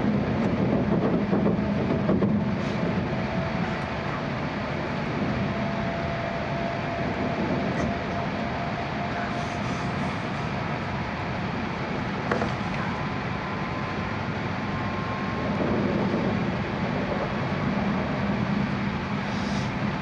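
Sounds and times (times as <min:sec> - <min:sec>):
train cabin rush: 0:00.0 - 0:20.0.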